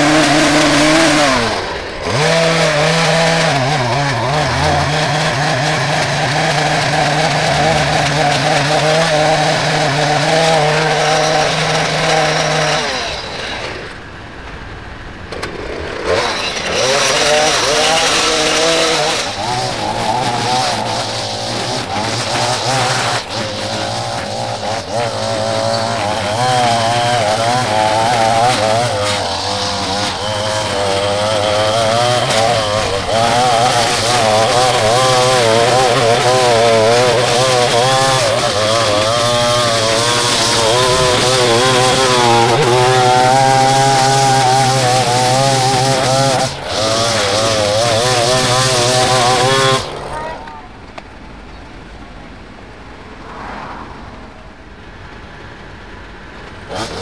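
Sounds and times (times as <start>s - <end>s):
string trimmer engine cutting grass: 0.0s - 50.7s, 56.6s - 57.0s.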